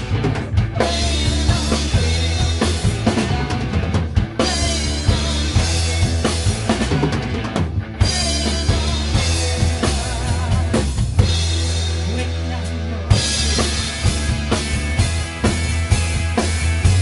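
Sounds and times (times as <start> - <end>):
drum kit: 0.0 - 17.0
electric guitars: 0.0 - 17.0
low bass line: 0.0 - 17.0.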